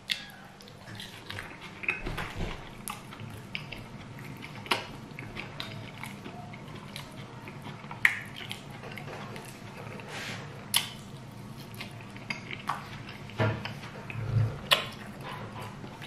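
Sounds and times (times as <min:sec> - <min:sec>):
moist chewing: 0:00.0 - 0:16.0.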